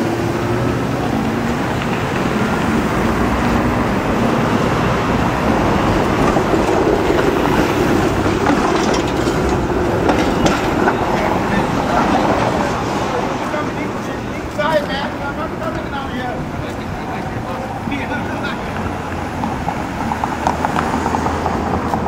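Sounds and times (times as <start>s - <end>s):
dense city traffic: 0.0s - 22.0s.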